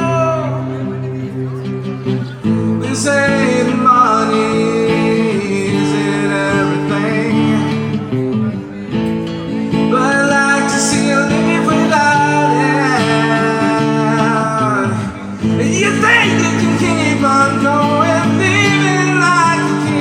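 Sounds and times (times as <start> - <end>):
strummed acoustic guitar: 0.0 - 20.0
person singing: 2.5 - 8.5, 9.7 - 20.0.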